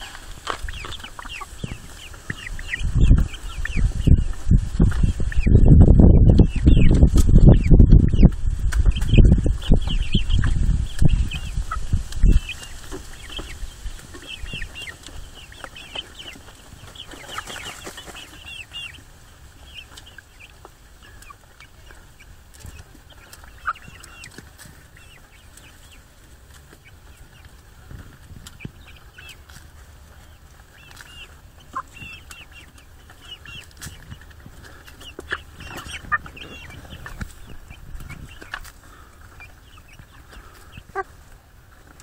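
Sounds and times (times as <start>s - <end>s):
hens clucking: 0.0s - 42.0s.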